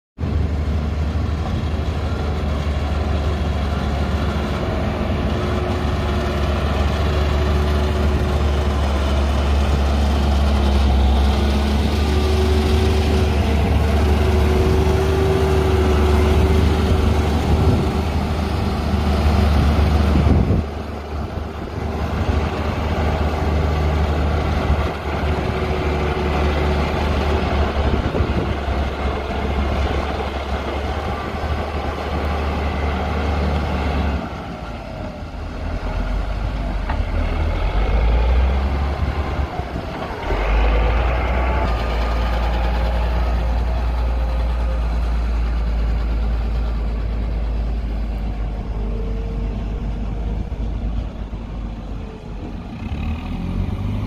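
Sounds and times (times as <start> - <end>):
diesel engine rumbling under load: 0.2 - 54.0.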